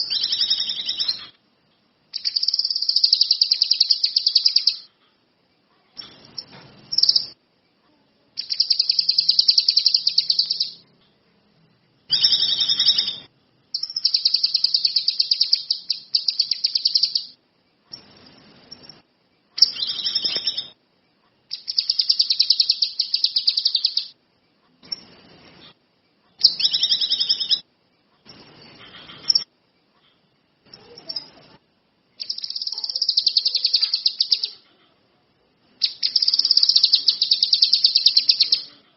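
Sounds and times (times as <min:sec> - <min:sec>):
songbird buzzy trills: 0:00.0 - 0:07.8, 0:08.4 - 0:11.0, 0:12.1 - 0:34.8, 0:35.6 - 0:38.8.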